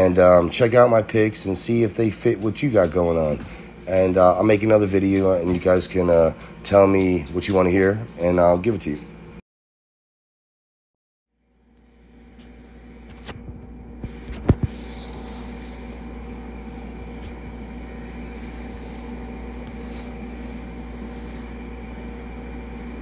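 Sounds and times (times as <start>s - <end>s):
low background hum: 0.0s - 9.4s, 11.3s - 23.0s.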